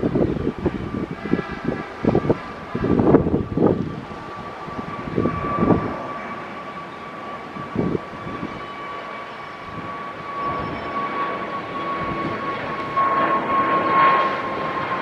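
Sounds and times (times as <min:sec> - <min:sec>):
low gusty rumbles: 0:00.0 - 0:06.6, 0:07.3 - 0:08.6, 0:09.6 - 0:15.0
jet engines whining: 0:00.0 - 0:15.0.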